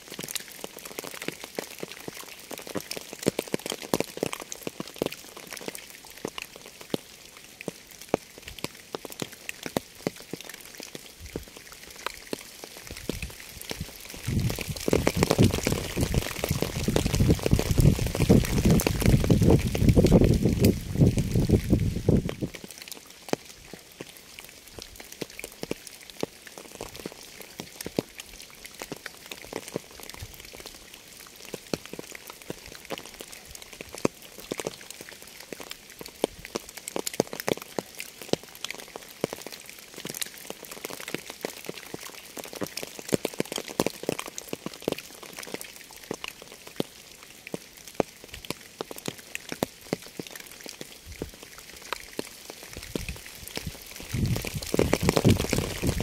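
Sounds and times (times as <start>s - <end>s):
raindrops ticking on a surface: 0.0s - 56.0s
steady rain hiss: 0.0s - 56.0s.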